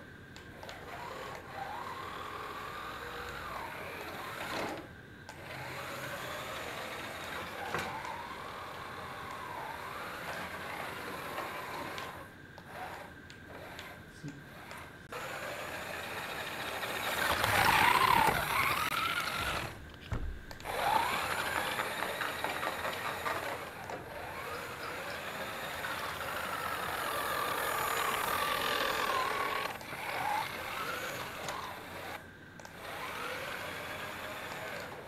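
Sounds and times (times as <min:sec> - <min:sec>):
small electric motors whining: 0:00.0 - 0:35.0.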